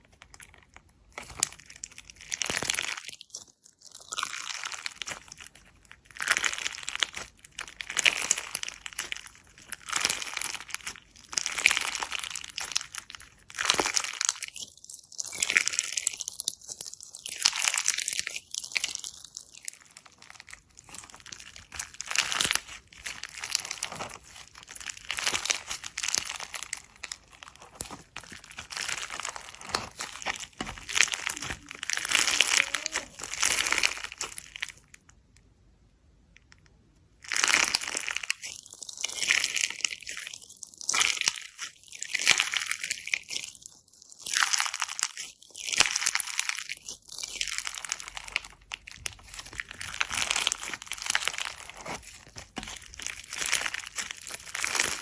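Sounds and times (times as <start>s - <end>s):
crunchy slime squeezed by hand: 0.1s - 34.9s, 37.2s - 55.0s.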